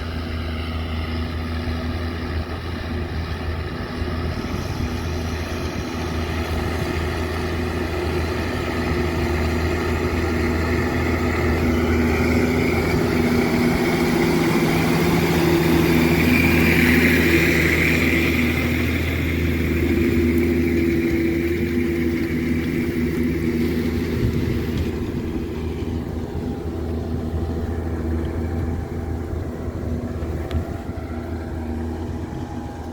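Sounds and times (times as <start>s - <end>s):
diesel tractor engine running: 0.0s - 32.9s.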